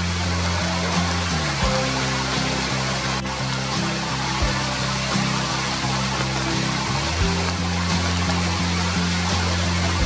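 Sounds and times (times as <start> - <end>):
background music with low notes: 0.0 - 10.0
river water rushing: 0.0 - 10.0.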